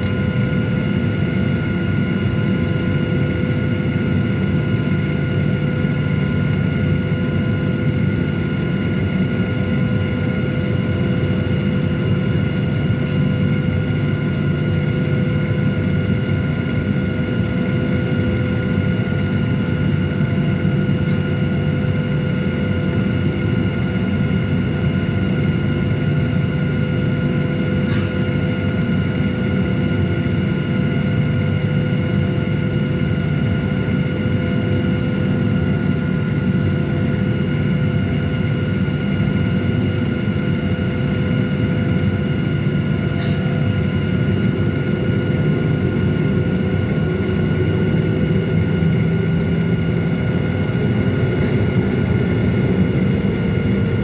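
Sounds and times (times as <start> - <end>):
jet engines idling: 0.0 - 54.0.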